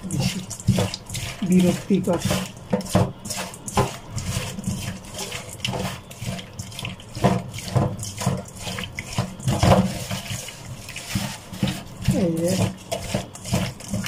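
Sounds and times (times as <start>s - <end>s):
fish washed in water splashing: 0.0s - 14.0s.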